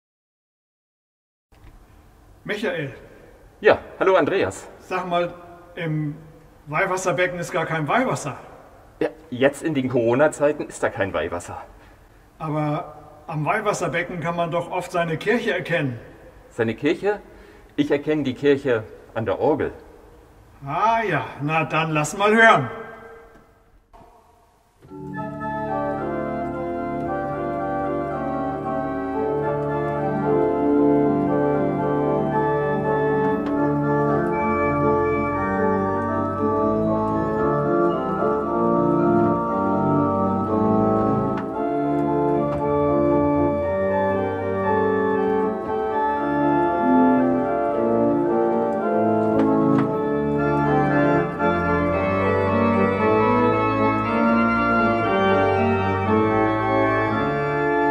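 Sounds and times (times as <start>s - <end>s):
pipe organ chords: 1.6s - 57.9s.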